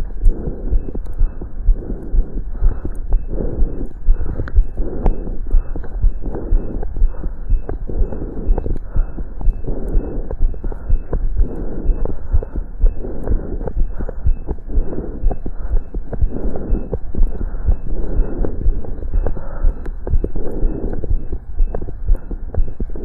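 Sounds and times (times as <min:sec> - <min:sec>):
heartbeat through stethoscope: 0:00.0 - 0:23.0.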